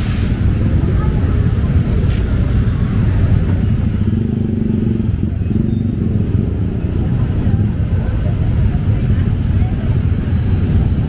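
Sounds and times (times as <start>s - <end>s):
motor vehicle engines rumbling: 0.0s - 11.0s.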